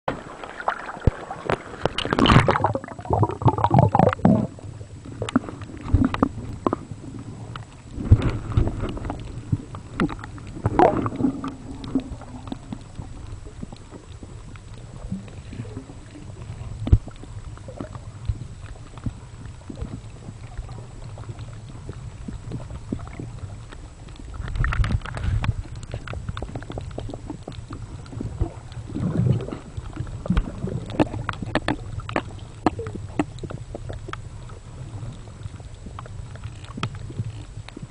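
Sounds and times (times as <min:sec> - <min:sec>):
muffled underwater rumble: 0:00.1 - 0:37.9
water sloshing and splashing: 0:00.1 - 0:37.9
small underwater clicks: 0:00.3 - 0:37.9.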